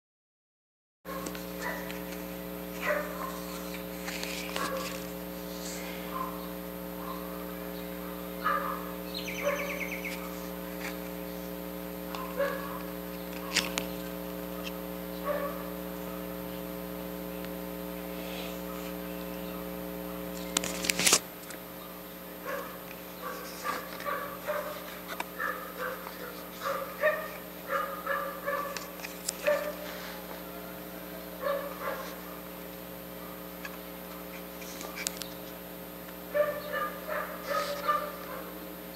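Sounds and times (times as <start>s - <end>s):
steady electrical hum: 1.1s - 38.9s.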